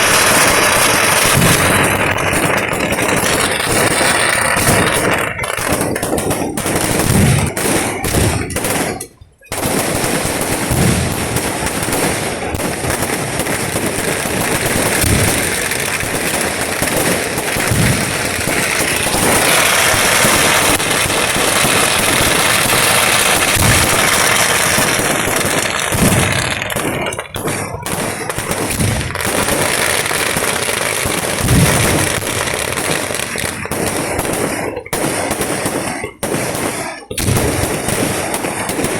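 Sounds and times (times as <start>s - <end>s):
fireworks crackling: 0.0s - 38.9s
fireworks low booms: 0.0s - 38.9s.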